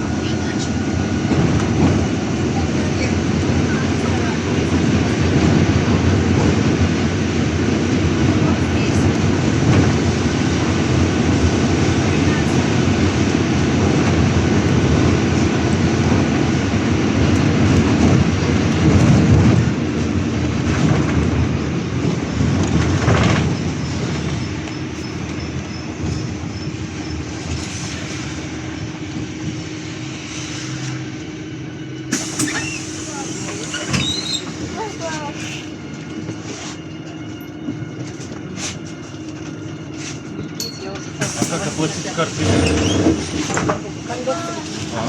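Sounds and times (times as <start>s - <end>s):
bus engine and road rumble: 0.0s - 45.0s.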